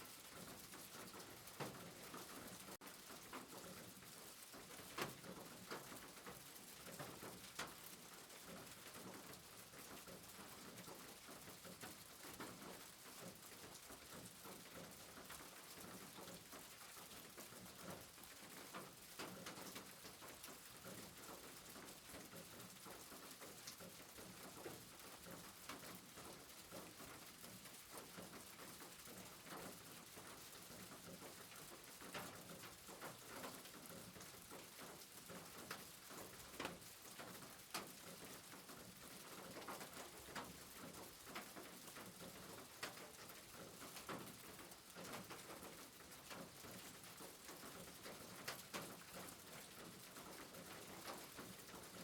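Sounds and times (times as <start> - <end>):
faint rain: 0.0 - 52.0.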